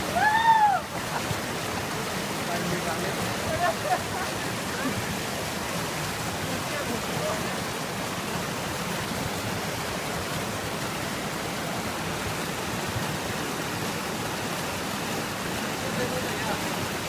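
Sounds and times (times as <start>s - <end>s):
rushing river water: 0.0s - 17.0s.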